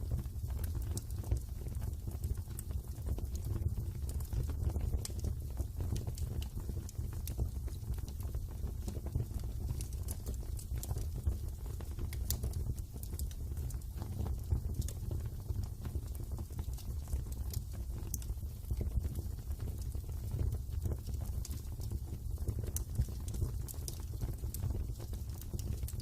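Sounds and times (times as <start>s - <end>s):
burning wood crackling and popping: 0.0s - 26.0s
fire low rumble: 0.0s - 26.0s.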